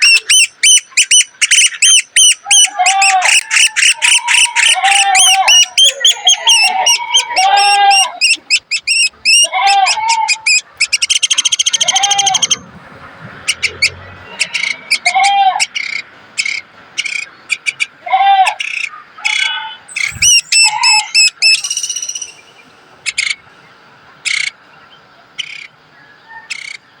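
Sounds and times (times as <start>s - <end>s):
woodpecker calls: 0.0s - 12.6s, 13.4s - 23.4s, 24.2s - 24.6s, 25.4s - 26.9s.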